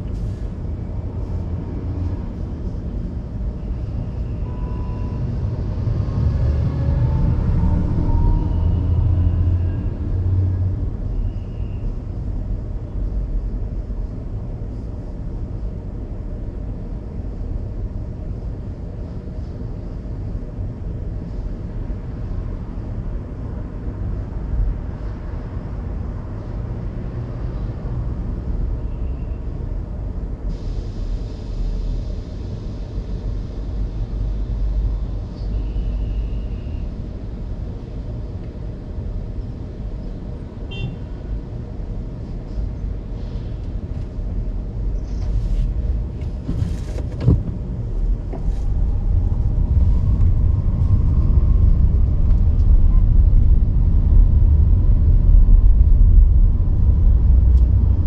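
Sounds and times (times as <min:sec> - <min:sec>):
car engine rumble: 0:00.0 - 0:58.0
tyre road noise: 0:00.0 - 0:58.0.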